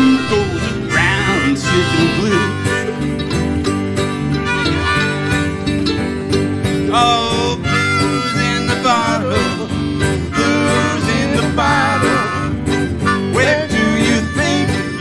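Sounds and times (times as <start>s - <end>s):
harmonica solo: 0.0s - 15.0s
mandolin: 0.0s - 15.0s
strummed acoustic guitar: 0.0s - 15.0s.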